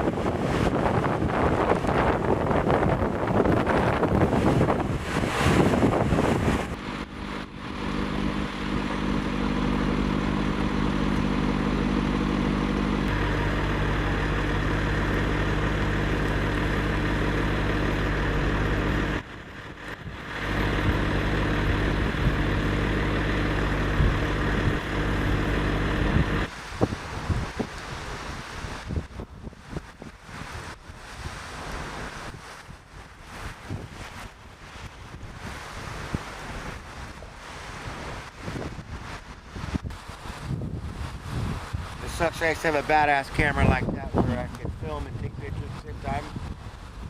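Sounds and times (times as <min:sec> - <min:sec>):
engine hum: 0:00.0 - 0:47.0
wind buffeting microphone: 0:00.0 - 0:47.0.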